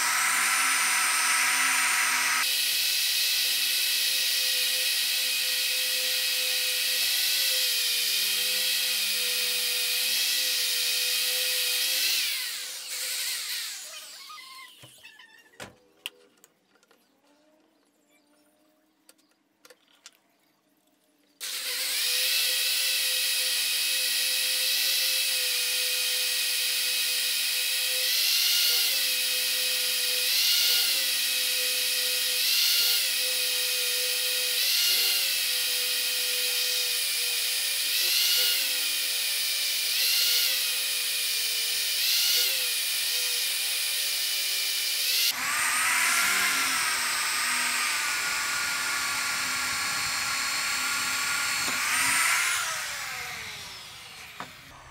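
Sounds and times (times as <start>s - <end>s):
electric drill boring into wood: 0.0s - 14.9s, 21.4s - 54.9s.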